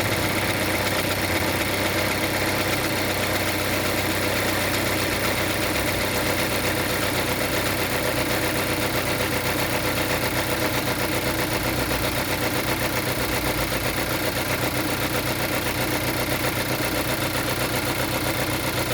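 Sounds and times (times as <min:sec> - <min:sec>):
car engine idling: 0:00.0 - 0:18.9
fast even engine ticking: 0:00.0 - 0:18.9.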